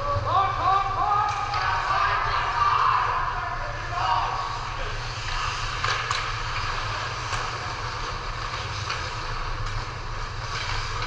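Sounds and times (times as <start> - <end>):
rink ambience hum and hiss: 0.0 - 11.0.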